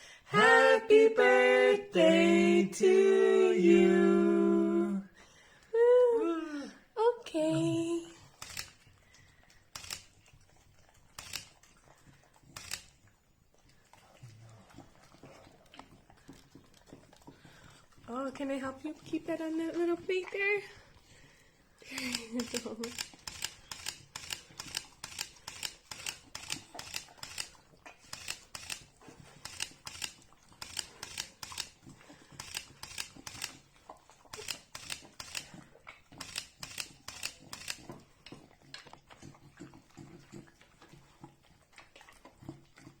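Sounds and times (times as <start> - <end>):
dog chewing and smacking: 7.6 - 43.0.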